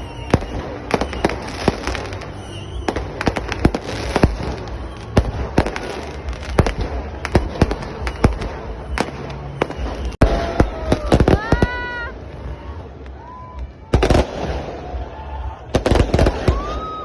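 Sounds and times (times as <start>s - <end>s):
fireworks bangs and pops: 0.0s - 12.1s, 13.0s - 17.0s.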